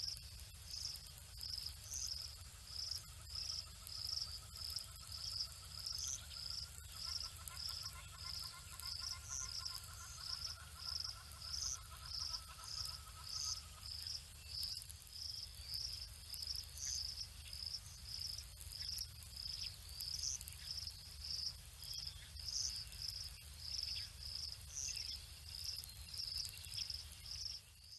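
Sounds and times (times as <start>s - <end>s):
cricket chirping: 0.0s - 27.9s.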